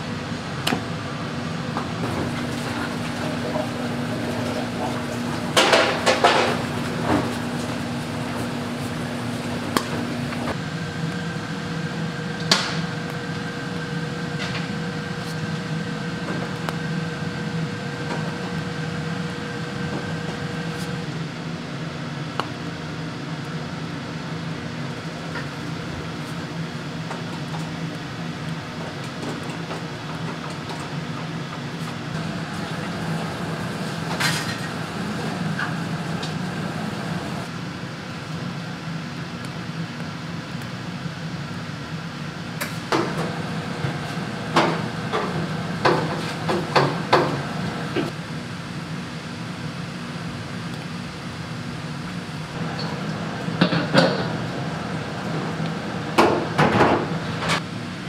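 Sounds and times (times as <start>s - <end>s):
kitchen machinery hum: 0.0s - 58.0s.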